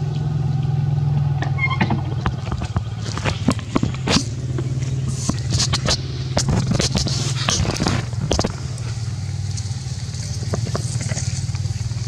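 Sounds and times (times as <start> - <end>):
engine running: 0.0 - 12.0
dry crackling clicks: 2.1 - 11.8.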